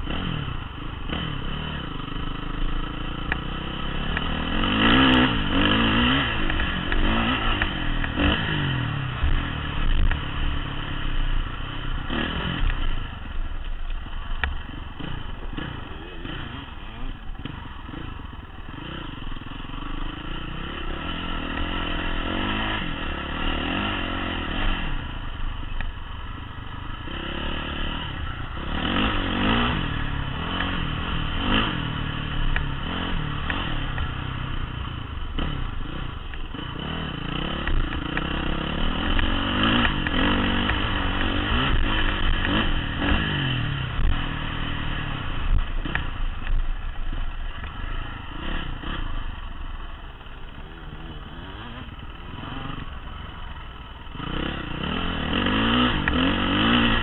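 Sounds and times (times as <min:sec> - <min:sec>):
dirt bike engine revving: 0:00.0 - 0:13.2, 0:14.6 - 0:25.4, 0:26.2 - 0:57.0.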